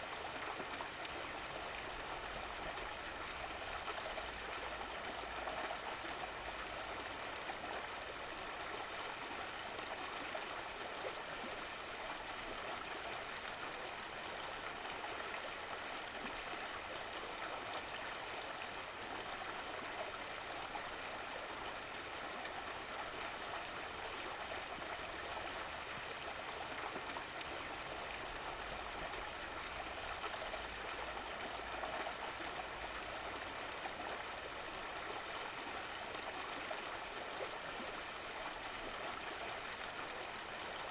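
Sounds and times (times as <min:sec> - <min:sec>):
stream water gurgling: 0:00.0 - 0:40.9.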